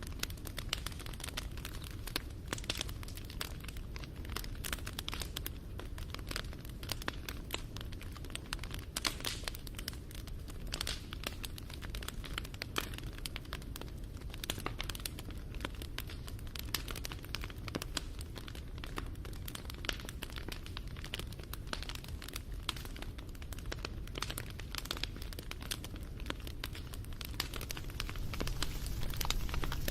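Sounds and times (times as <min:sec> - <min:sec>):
fire crackling and popping: 0:00.0 - 0:29.9
fire flames rumbling: 0:00.0 - 0:29.9.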